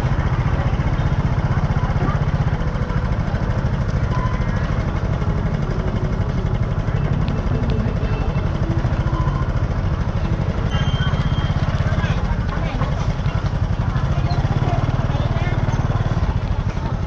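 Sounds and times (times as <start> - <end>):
faint voices: 0.0 - 17.0
small engine running: 0.0 - 17.0.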